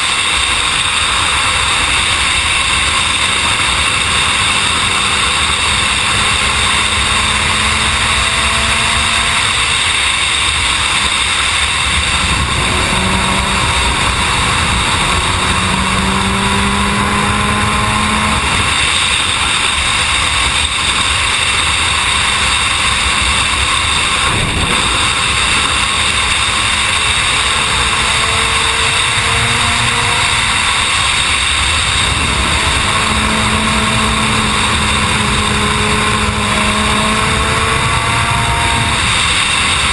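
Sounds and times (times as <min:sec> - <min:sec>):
motorcycle engine running: 0:00.0 - 0:39.9
wind rushing: 0:00.0 - 0:39.9.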